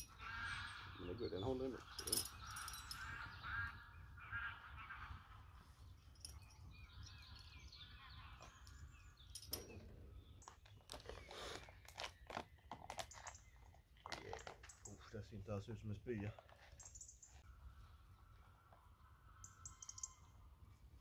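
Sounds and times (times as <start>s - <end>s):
small birds chirping: 0.0s - 20.5s.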